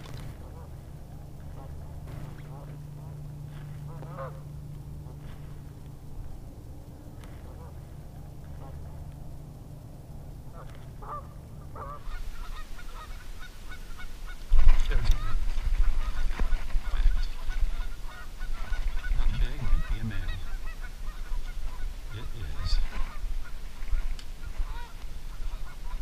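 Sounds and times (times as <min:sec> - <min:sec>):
birds calling: 0:00.0 - 0:26.0
wind rumbling on microphone: 0:00.0 - 0:26.0.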